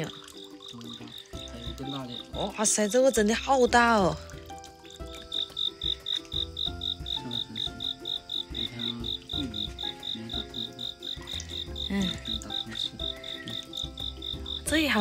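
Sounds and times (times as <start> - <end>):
cricket chirping: 0.1 - 3.2, 4.5 - 15.0.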